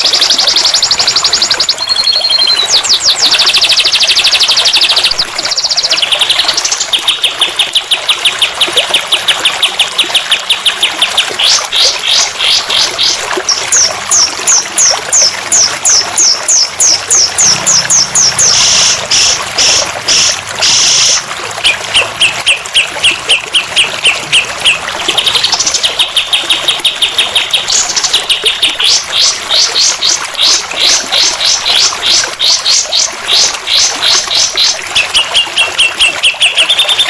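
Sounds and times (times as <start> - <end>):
recorded songbird chirps: 0.0 - 37.0
trickling water: 0.0 - 37.0.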